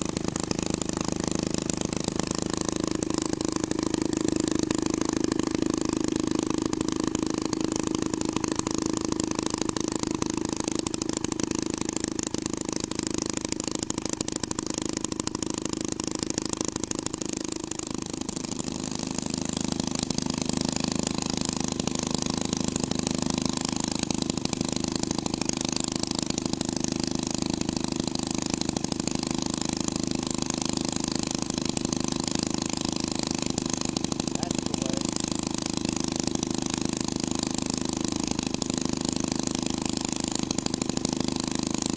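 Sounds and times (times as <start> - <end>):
hot rod engine exhaust pulsing: 0.0 - 41.9.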